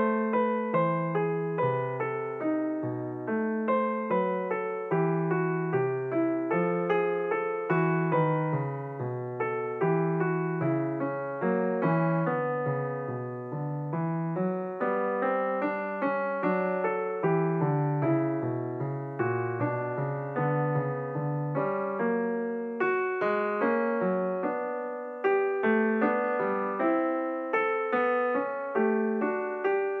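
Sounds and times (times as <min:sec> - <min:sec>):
gentle piano melody: 0:00.0 - 0:30.0.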